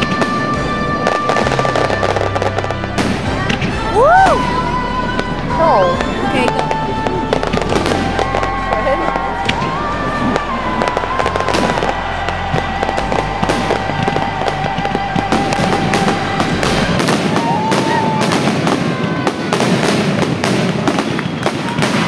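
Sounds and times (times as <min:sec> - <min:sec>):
fireworks crackling and popping: 0:00.0 - 0:22.0
fireworks whistling: 0:00.0 - 0:22.0.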